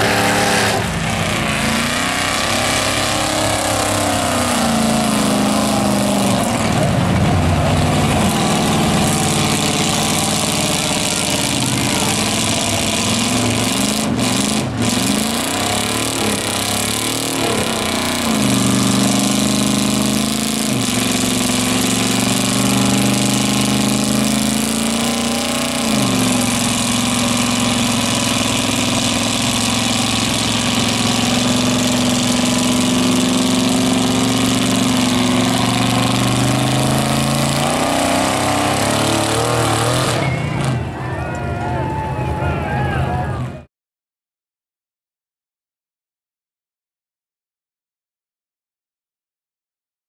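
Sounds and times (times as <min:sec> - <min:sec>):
truck engine at high revs: 0:00.0 - 0:41.0
tires churning through mud: 0:00.0 - 0:43.6.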